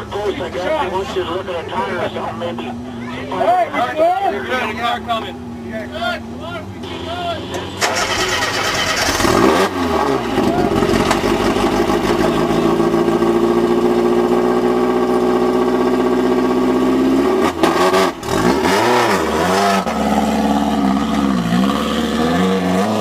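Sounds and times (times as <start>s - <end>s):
buggy engine revving: 0.0s - 23.0s.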